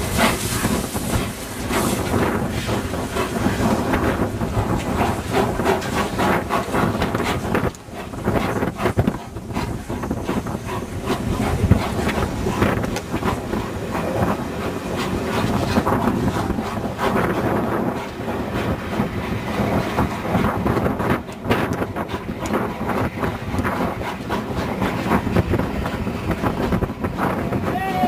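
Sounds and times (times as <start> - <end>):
train wheels clattering over rail joints: 0.0 - 27.8.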